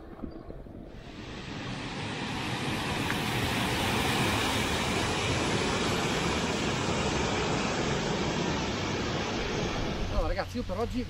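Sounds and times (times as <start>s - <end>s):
water rushing over weir: 0.9s - 11.0s.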